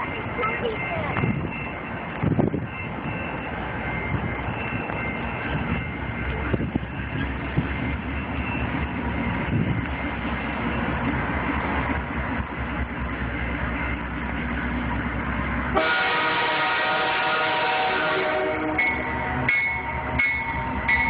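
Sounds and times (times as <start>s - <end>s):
locomotive engine rumble: 0.0s - 21.0s.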